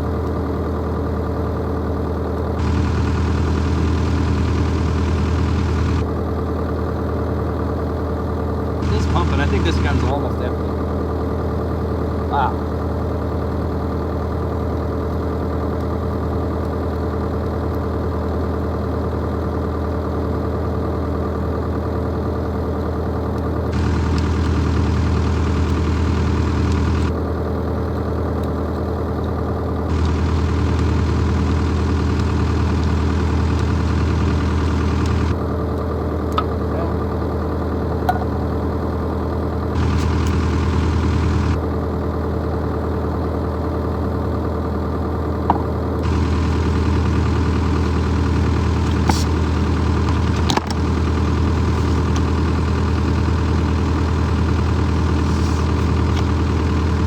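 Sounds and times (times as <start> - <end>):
excavator diesel engine idling: 0.0 - 57.0.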